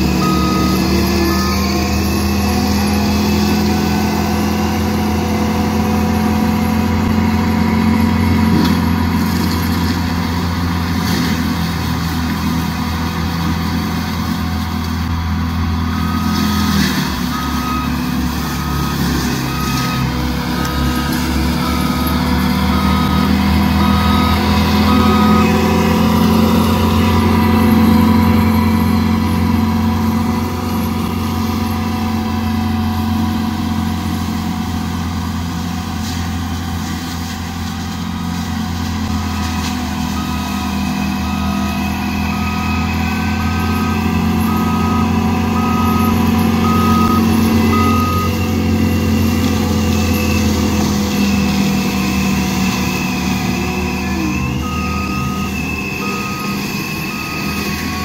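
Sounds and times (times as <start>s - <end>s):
backup alarm beeping: 0.0s - 10.3s, 15.7s - 34.1s, 39.0s - 58.0s
track loader engine running hard: 0.0s - 58.0s.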